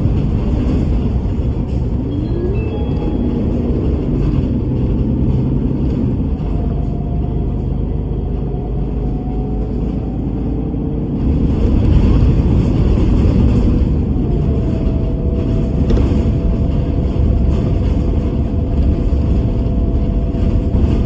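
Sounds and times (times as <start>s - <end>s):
bus engine and road rumble: 0.0s - 21.0s
faint engine tones sliding in pitch: 0.6s - 21.0s.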